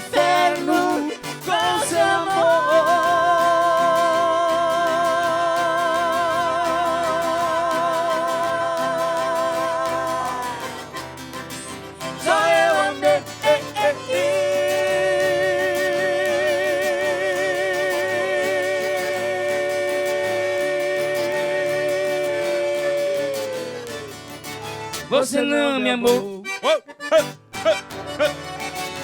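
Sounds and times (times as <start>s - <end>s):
instrumental notes: 0.0s - 25.2s, 26.3s - 29.0s
person singing with vibrato: 0.0s - 29.0s.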